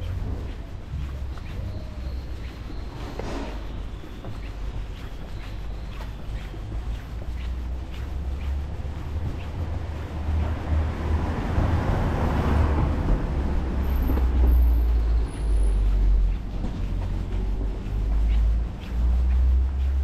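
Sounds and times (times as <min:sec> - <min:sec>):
steady low rumble: 0:00.0 - 0:20.0
vehicle passing: 0:00.0 - 0:20.0.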